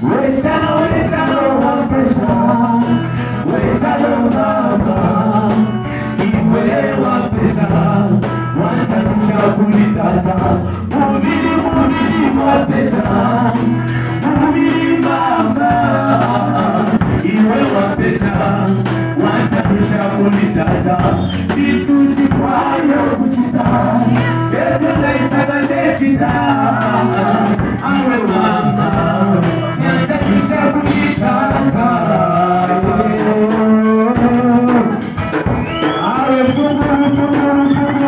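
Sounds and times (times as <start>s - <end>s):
amplified guitar: 0.0s - 38.0s
drum kit beat: 0.0s - 38.0s
keyboard: 0.0s - 38.0s
voices singing: 0.0s - 38.0s.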